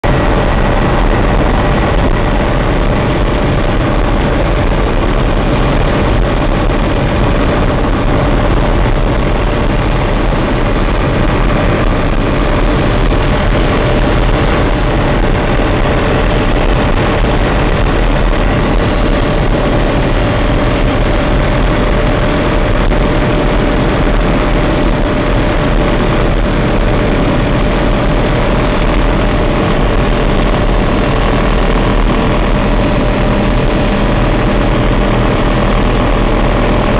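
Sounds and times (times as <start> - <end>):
helicopter engine and rotor drone: 0.0 - 36.9.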